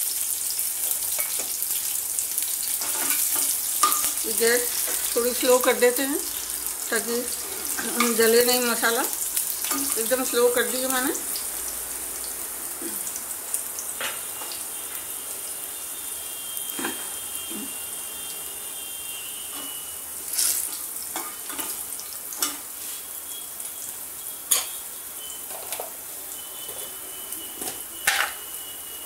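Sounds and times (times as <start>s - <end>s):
spices sizzling in hot oil: 0.0s - 29.0s.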